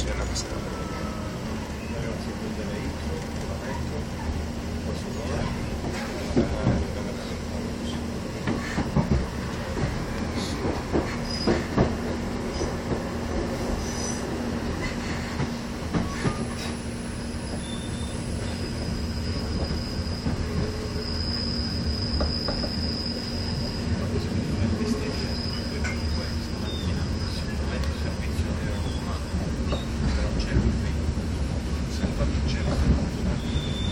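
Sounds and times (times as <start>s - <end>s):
train carriage rumble: 0.0s - 33.9s.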